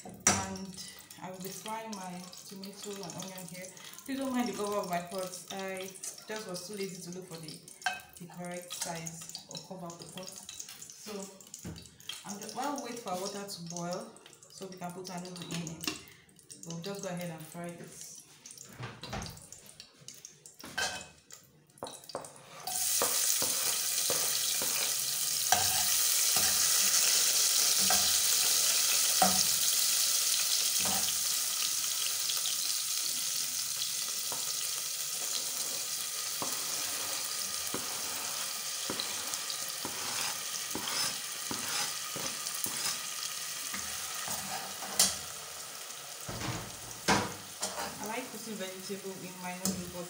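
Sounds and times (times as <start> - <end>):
vegetables sizzling in hot oil: 0.0 - 14.1, 21.8 - 50.0.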